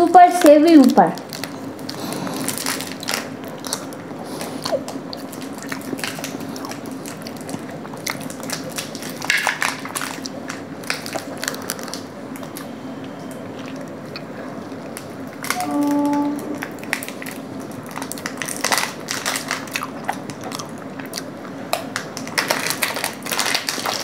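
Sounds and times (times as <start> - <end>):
steady low hum: 0.0 - 24.0
chewing: 1.2 - 15.6, 16.6 - 24.0.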